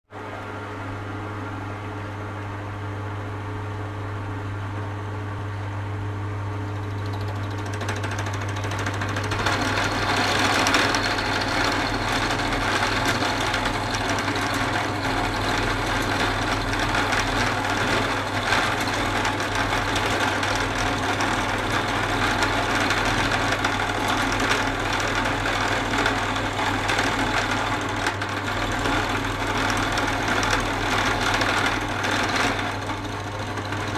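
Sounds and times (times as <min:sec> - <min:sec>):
drill press motor humming: 0:04.0 - 0:33.9.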